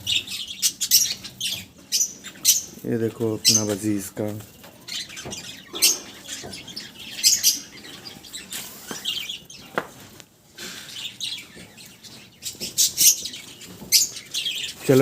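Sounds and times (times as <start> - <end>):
budgerigars chattering: 0.0 - 4.2, 4.8 - 9.7, 10.7 - 15.0.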